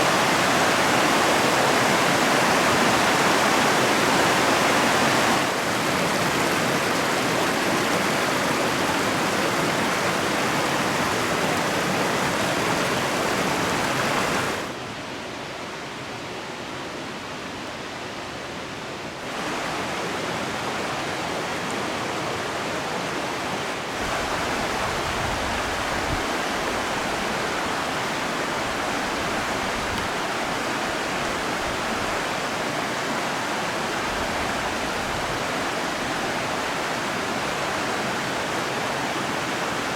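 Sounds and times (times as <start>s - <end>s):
river rushing over rocks: 0.0s - 15.0s, 19.0s - 39.9s.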